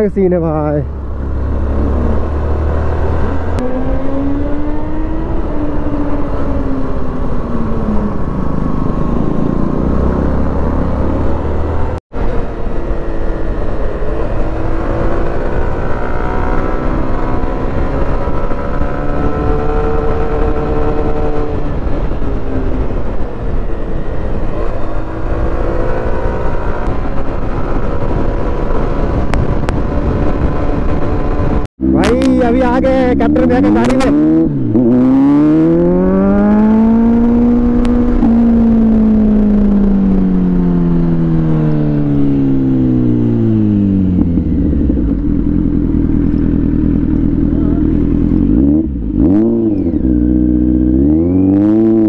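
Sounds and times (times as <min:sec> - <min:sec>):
motorcycle engine revving: 0:00.0 - 0:52.0
wind rumble on microphone: 0:00.9 - 0:52.0.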